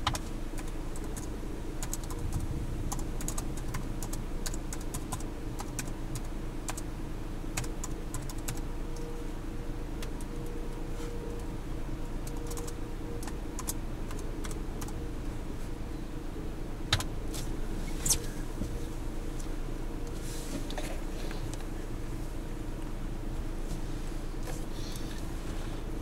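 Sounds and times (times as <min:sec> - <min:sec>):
vehicle idling hum: 0:00.0 - 0:26.0.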